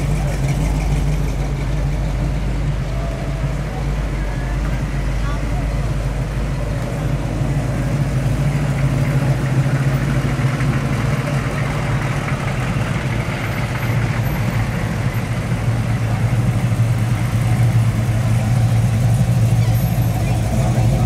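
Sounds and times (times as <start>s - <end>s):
car engines idling: 0.0s - 21.0s
low exhaust rumble: 0.0s - 21.0s.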